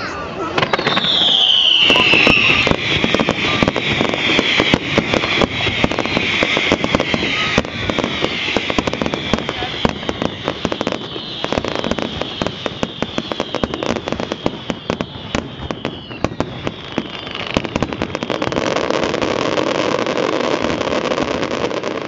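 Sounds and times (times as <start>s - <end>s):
fireworks bursts and bangs: 0.0s - 22.0s
fireworks whistles falling in pitch: 0.0s - 22.0s.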